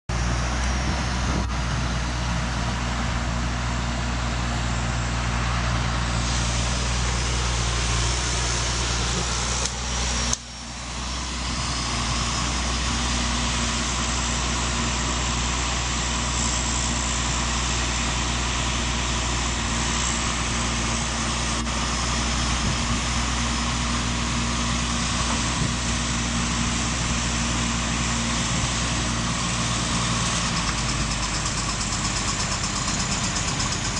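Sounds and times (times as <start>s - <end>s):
diesel engine hum: 0.1s - 33.9s
hissing mechanical noise: 4.5s - 33.9s.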